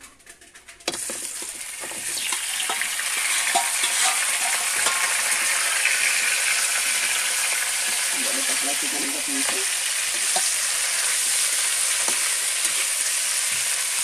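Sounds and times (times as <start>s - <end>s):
chicken sizzling in hot oil: 0.8s - 14.0s
spoon scraping steel pot: 0.9s - 13.7s.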